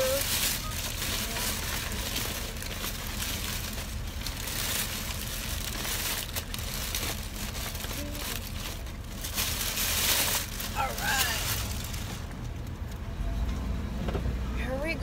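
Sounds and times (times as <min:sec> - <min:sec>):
plastic bag rustling: 0:00.0 - 0:12.8
low rumble: 0:00.0 - 0:15.0.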